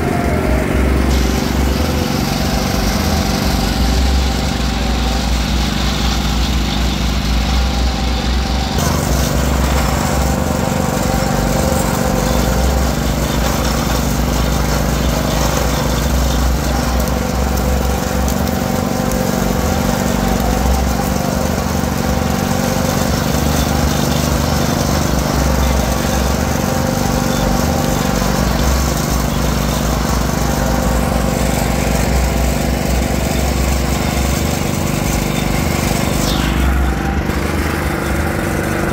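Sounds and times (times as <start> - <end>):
sugarcane juicer running: 0.0 - 38.9.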